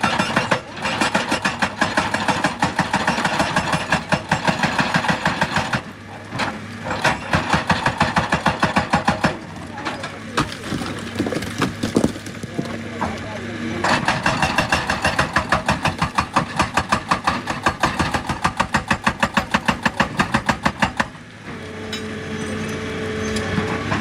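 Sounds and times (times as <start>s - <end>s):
hydraulic rock breaker hammering stone: 0.0s - 21.2s.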